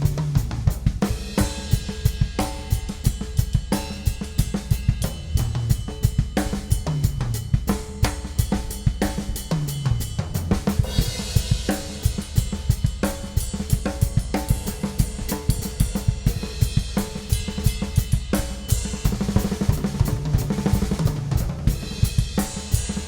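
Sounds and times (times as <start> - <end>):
drum kit rock groove: 0.0 - 23.0.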